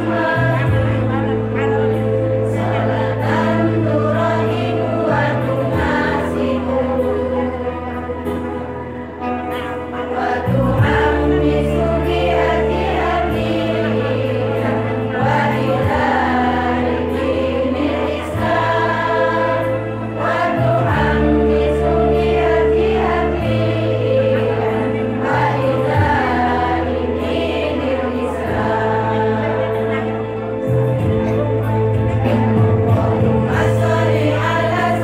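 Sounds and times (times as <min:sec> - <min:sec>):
held low chords: 0:00.0 - 0:35.0
women's choir singing: 0:00.0 - 0:35.0.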